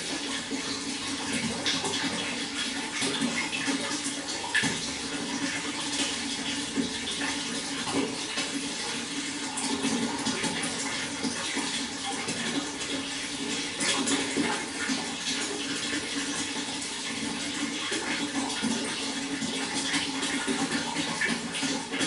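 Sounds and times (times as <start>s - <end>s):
water flowing and splashing: 0.0s - 22.0s.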